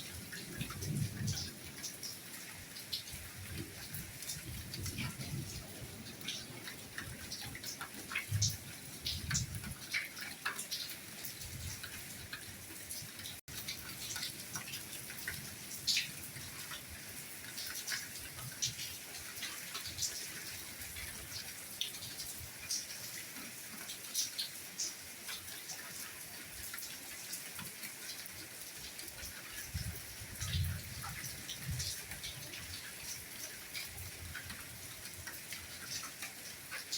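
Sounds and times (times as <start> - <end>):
rain hiss: 0.0 - 36.9
raindrops ticking and tapping: 0.0 - 36.9.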